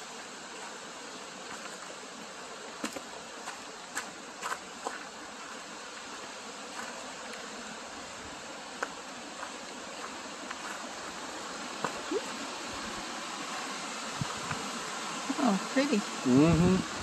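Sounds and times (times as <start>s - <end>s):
waterfall and creek rushing: 0.0s - 17.0s.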